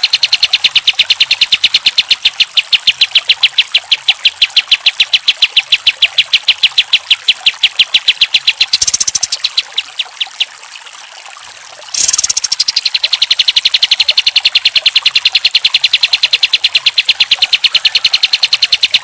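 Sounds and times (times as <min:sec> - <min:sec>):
bird singing rapid repeated notes: 0:00.0 - 0:10.6, 0:11.9 - 0:19.0.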